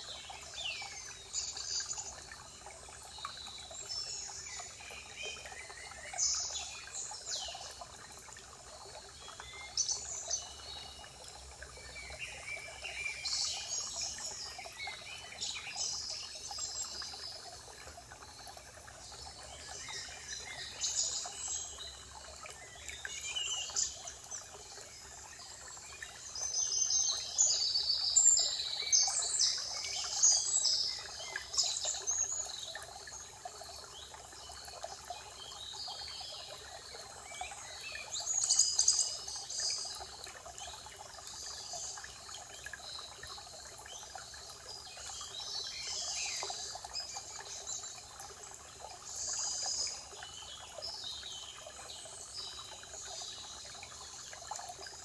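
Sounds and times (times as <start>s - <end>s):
running water hiss: 0.0s - 55.0s.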